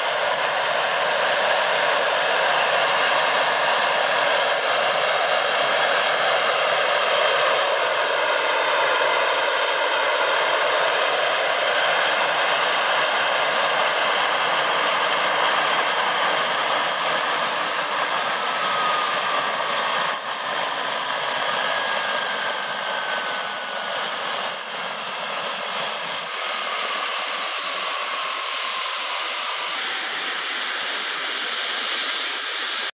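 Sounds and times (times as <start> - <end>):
model gas turbine whine: 0.0 - 32.9.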